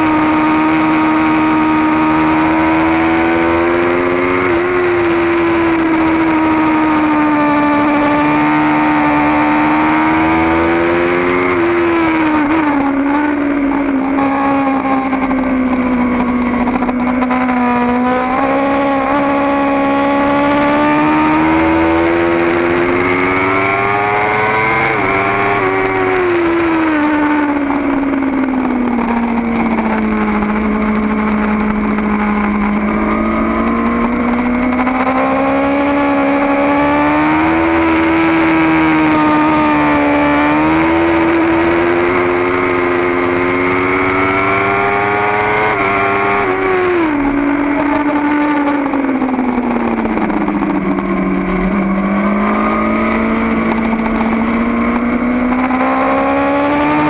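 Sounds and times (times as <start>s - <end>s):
motorcycle engine at full throttle: 0.0s - 57.0s.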